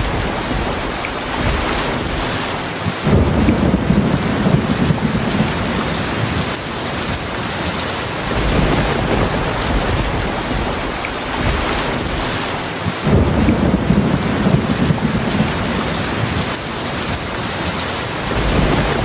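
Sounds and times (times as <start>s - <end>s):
heavy rain: 0.0s - 19.0s
rolling thunder: 0.0s - 19.0s.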